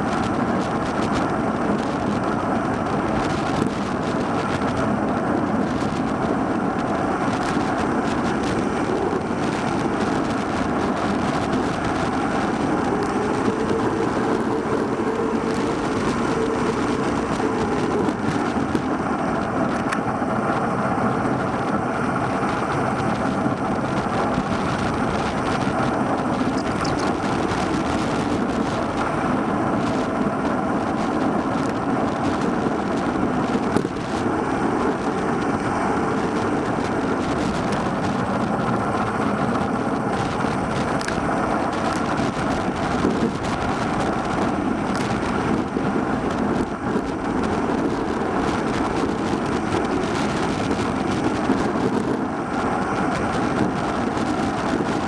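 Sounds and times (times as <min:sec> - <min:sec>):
bicycle tyre and road noise: 0:00.0 - 0:55.0
wind rushing over microphone: 0:00.0 - 0:55.0.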